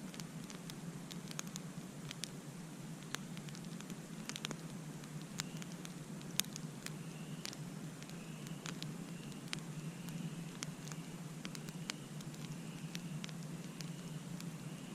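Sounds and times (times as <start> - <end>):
wood popping and snapping: 0.0 - 2.4, 3.0 - 14.5.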